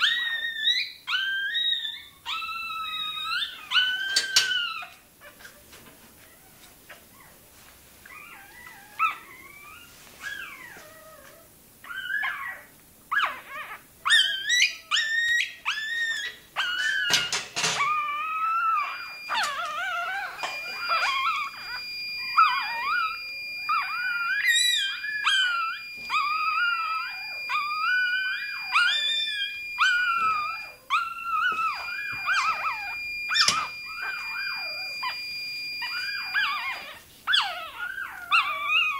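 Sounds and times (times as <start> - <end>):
puppy squealing and yelping: 0.0 - 7.4, 8.1 - 38.9.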